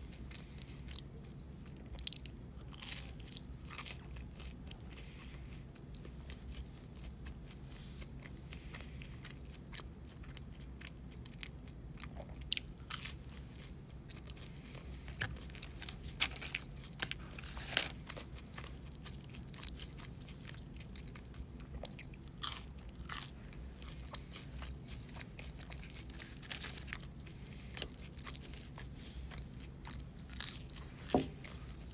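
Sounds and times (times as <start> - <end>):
faint low hum: 0.0 - 31.9
crunchy bites and chewing: 1.8 - 31.9.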